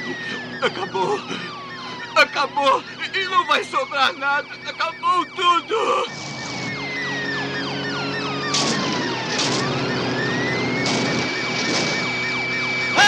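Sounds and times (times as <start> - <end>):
car engines running: 0.0 - 13.0
police siren wailing: 0.0 - 13.0.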